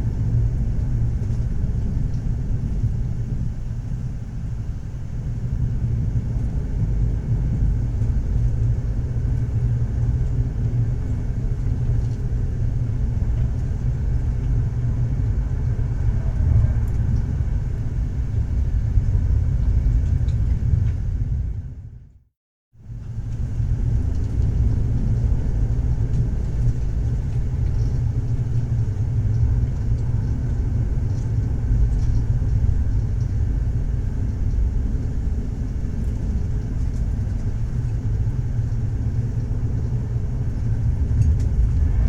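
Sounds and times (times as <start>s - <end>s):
train rumbling: 0.0s - 22.1s, 22.9s - 42.0s.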